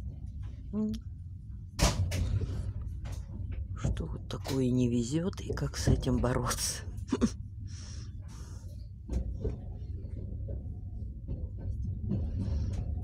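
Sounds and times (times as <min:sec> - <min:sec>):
train rumble inside carriage: 0:00.0 - 0:13.0.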